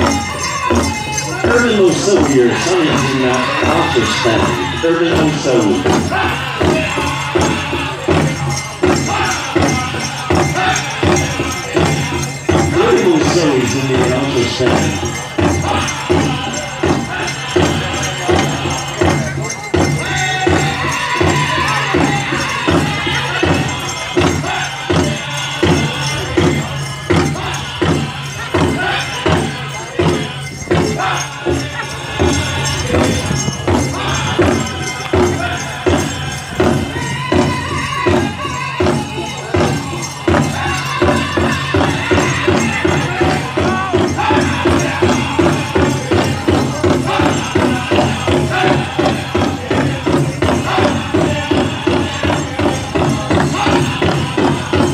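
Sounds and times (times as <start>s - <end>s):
bells jingling: 0.0s - 54.9s
big drum beat: 0.0s - 54.9s
high singing voices: 0.0s - 54.9s.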